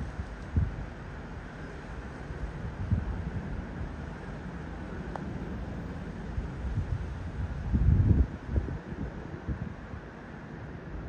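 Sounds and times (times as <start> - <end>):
wind gust on microphone: 0.0 - 10.2
jet engines rumbling overhead: 0.0 - 11.0.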